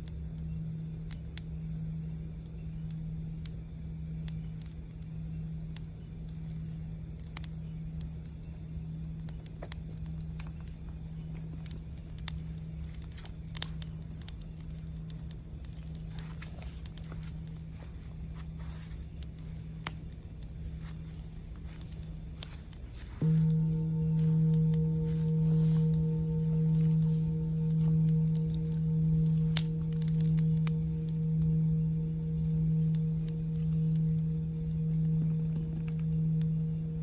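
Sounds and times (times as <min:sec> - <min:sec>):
campfire crackling and popping: 0:00.0 - 0:37.0
low hum and rumble: 0:00.0 - 0:37.0.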